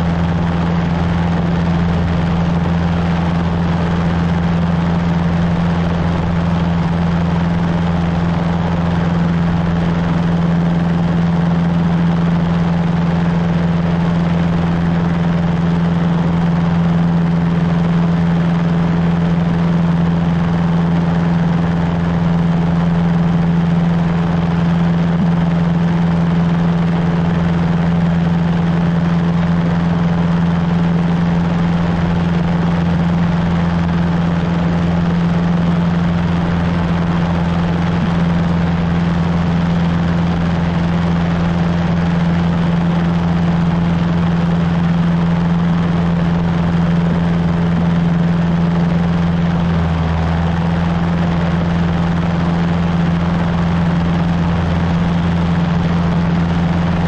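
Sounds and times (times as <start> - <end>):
small plane engine droning: 0.0 - 57.0.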